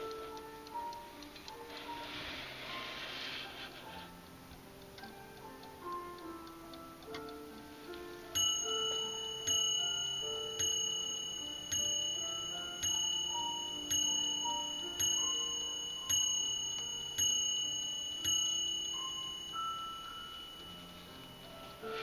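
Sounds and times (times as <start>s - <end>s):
mantel clock striking: 0.0s - 22.0s.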